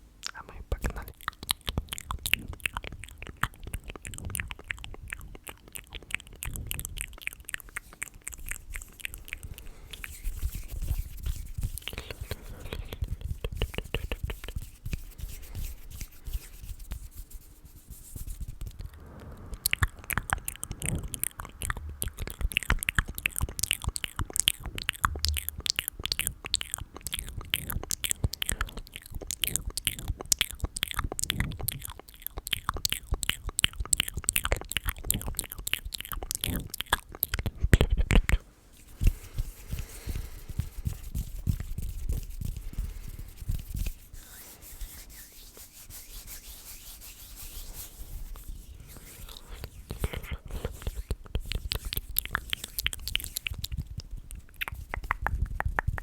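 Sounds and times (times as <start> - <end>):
wet mouth clicks and smacks: 0.2 - 17.2, 18.0 - 45.7, 48.3 - 56.0.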